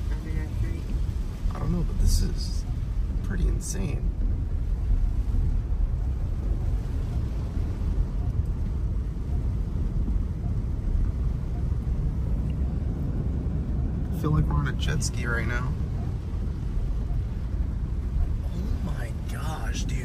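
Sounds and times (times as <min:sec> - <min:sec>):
rain on car: 0:00.0 - 0:20.0
tyres pushing through water: 0:00.0 - 0:20.0.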